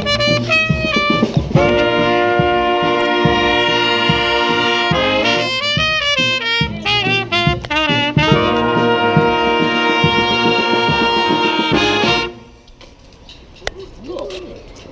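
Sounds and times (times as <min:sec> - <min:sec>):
steady drum beat: 0:00.0 - 0:12.5
street brass band playing: 0:00.0 - 0:12.7.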